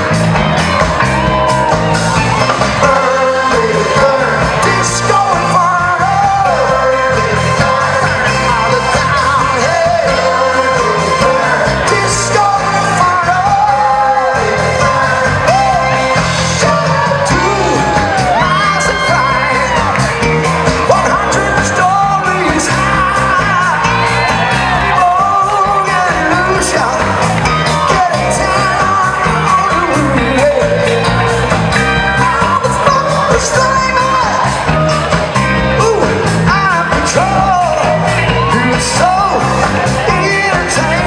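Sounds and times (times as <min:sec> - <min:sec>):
bass: 0:00.0 - 0:41.0
drums with steady beat: 0:00.0 - 0:41.0
electric guitars: 0:00.0 - 0:41.0
keyboard: 0:00.0 - 0:41.0
singer belting and shouting: 0:00.0 - 0:41.0.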